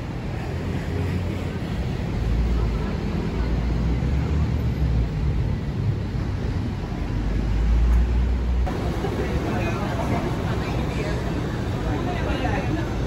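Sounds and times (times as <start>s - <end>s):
passing cars: 0.0s - 13.0s.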